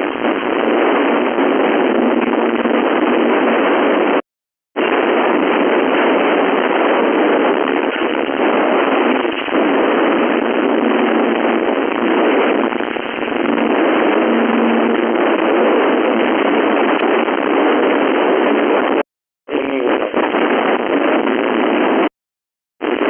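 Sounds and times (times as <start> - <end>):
radio static: 0.0 - 4.2, 4.8 - 22.1.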